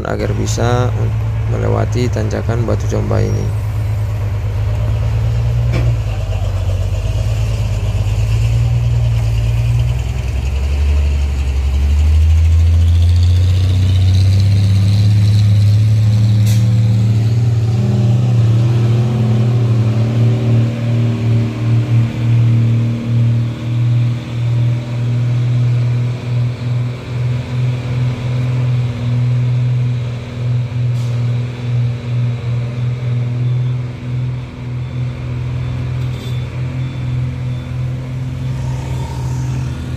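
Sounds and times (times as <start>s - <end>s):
diesel truck engines labouring: 0.0s - 39.9s.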